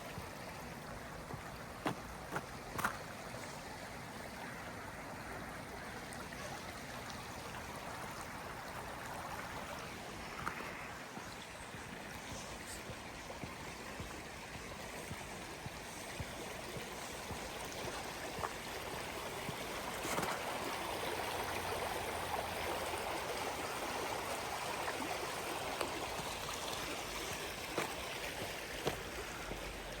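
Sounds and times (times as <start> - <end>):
water flowing: 0.0 - 30.0.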